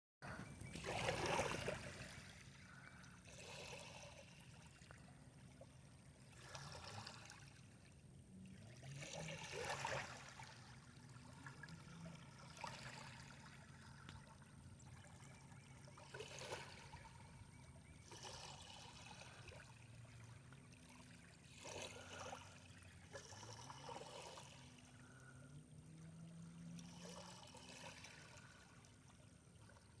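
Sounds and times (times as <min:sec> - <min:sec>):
waves lapping at shore: 0:00.3 - 0:30.0.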